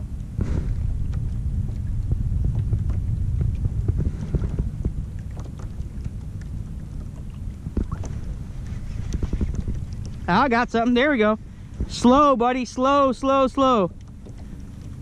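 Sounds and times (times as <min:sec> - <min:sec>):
water lapping against hull: 0:00.0 - 0:15.0
wind rumbling on microphone: 0:00.0 - 0:15.0.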